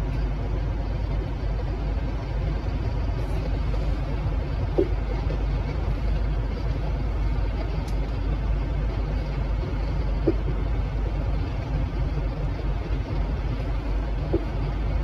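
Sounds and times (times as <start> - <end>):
low rumble in car cabin: 0.0 - 15.0.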